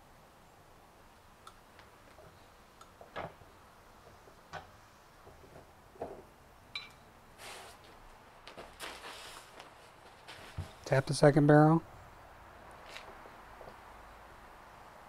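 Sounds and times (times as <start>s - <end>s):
rustle: 0.4s - 15.0s.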